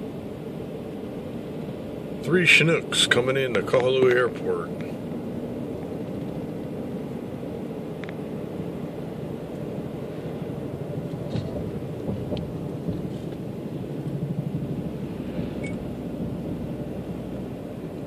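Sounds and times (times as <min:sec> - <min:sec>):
distant helicopter rotors pulsing: 0:00.0 - 0:18.0.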